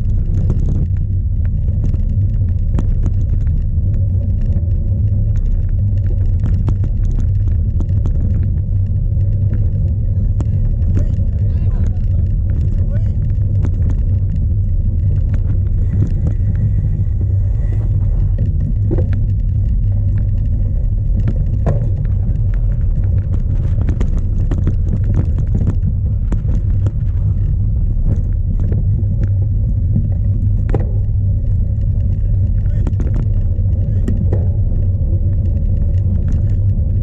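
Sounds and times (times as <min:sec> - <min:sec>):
bike clicks and knocks: 0:00.0 - 0:37.0
wind buffeting microphone: 0:00.0 - 0:37.0.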